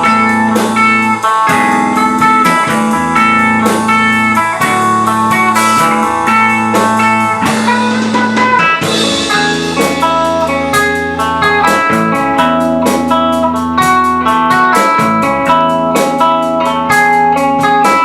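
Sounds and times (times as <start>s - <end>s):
drum kit beat: 0.0s - 18.0s
guitar: 0.0s - 18.0s.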